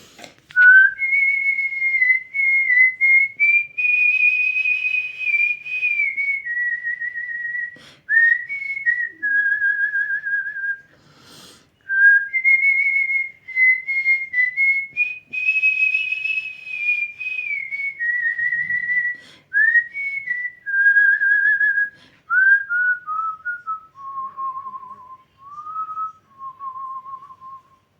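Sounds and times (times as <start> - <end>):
person whistling a melody: 0.6 - 11.0, 11.9 - 27.9.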